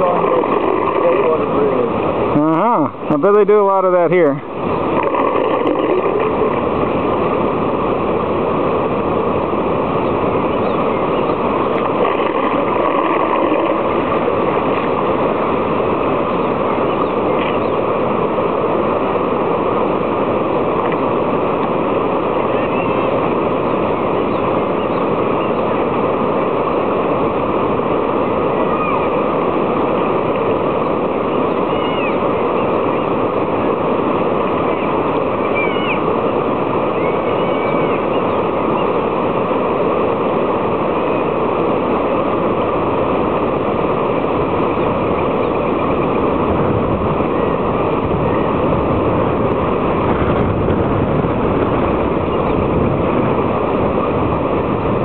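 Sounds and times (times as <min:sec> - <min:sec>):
water rushing over a bridge: 0:00.0 - 0:55.0.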